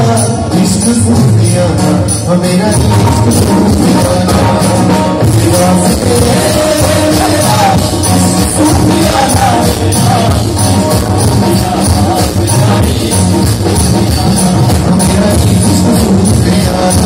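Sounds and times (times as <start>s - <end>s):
live band playing loudly: 0.0s - 17.0s
man singing: 0.0s - 17.0s.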